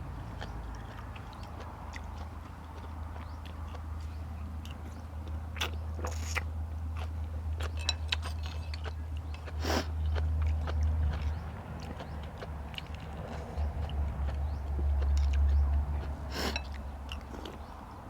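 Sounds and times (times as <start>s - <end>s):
chewing and biting food: 0.0s - 18.0s.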